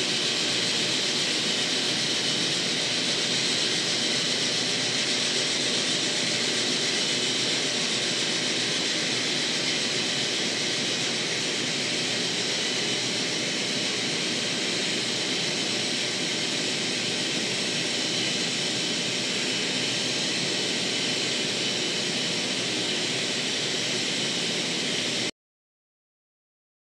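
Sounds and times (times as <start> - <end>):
model train motor whirring: 0.0 - 25.0.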